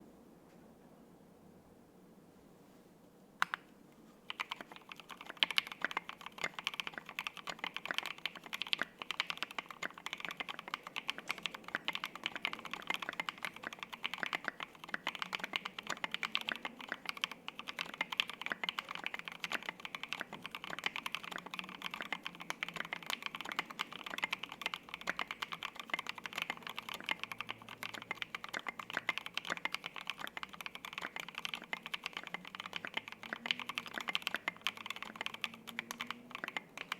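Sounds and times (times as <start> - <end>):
typing on mechanical keyboard: 4.3 - 36.9.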